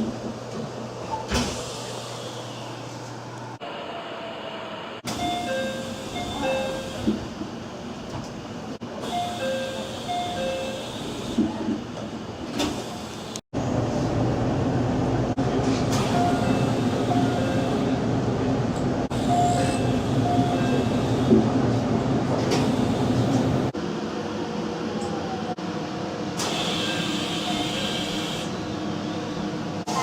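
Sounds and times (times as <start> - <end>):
train running hum: 0.0 - 30.0.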